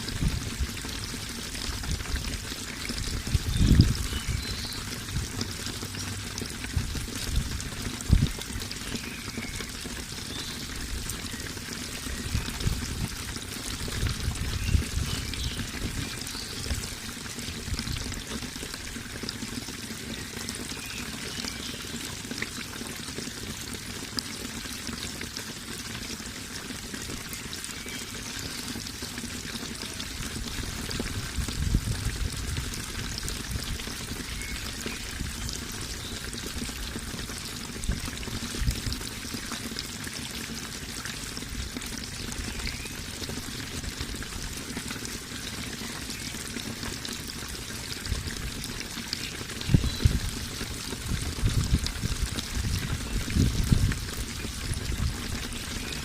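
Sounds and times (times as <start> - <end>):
water running and pouring: 0.0 - 56.0.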